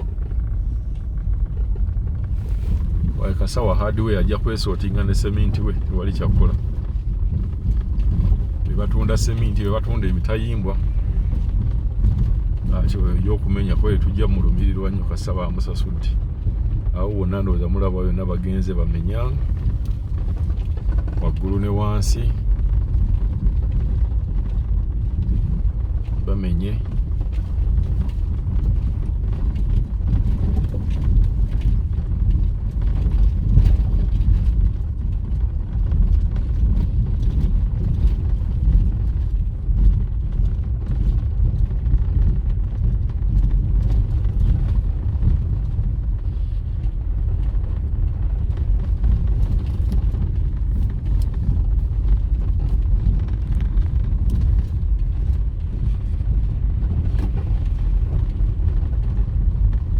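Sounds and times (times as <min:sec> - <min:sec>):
moving vehicle rumble: 0:00.0 - 0:59.9.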